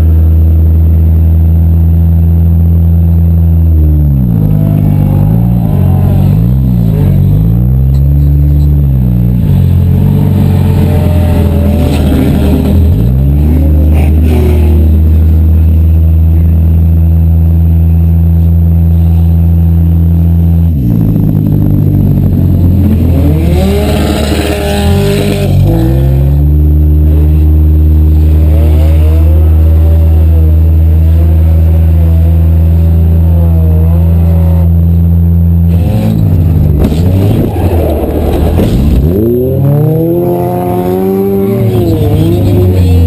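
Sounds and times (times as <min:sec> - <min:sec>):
car engines running loud: 0:00.0 - 0:43.0
engines revving: 0:00.0 - 0:43.0.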